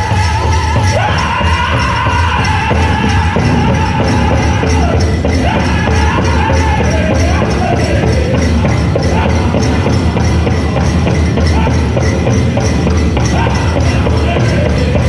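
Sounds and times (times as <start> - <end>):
drum group singing: 0.0 - 15.0
fast steady drumbeat: 0.0 - 15.0
jingling bells: 0.0 - 15.0.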